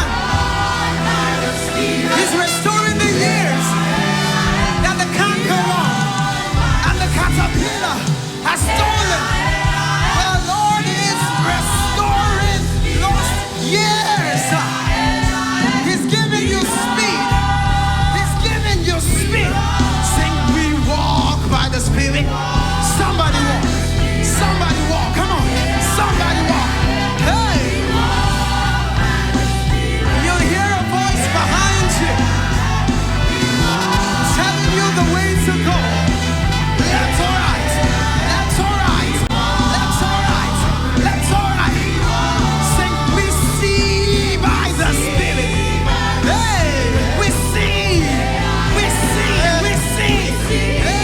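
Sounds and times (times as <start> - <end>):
gospel band playing: 0.0 - 51.0
voices singing: 0.0 - 51.0.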